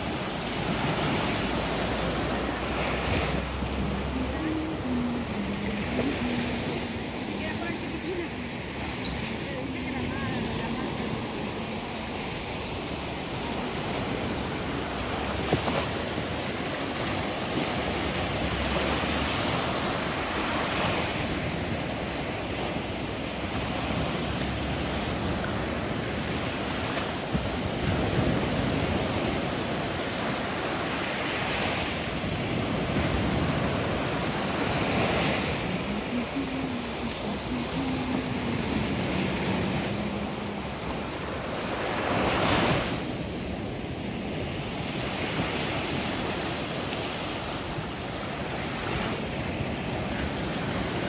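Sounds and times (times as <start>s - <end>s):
sea waves breaking on shore: 0.0s - 51.0s.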